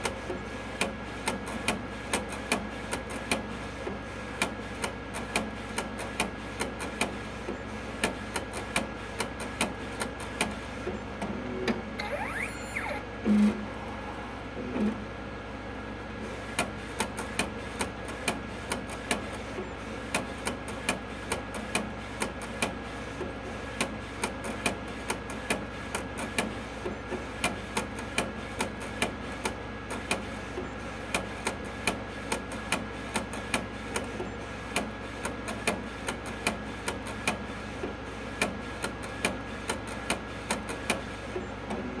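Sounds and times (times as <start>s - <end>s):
printer hum: 0.0s - 42.0s.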